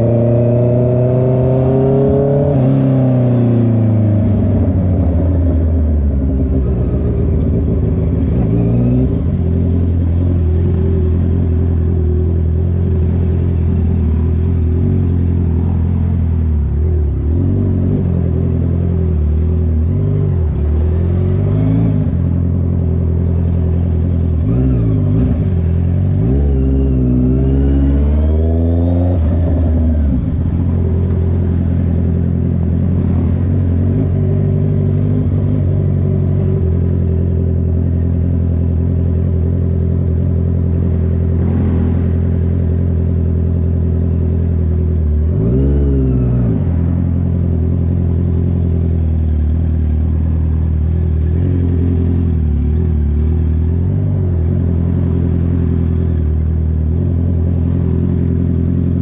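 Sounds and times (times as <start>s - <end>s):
motorcycle engine through loud exhaust: 0.0s - 59.0s.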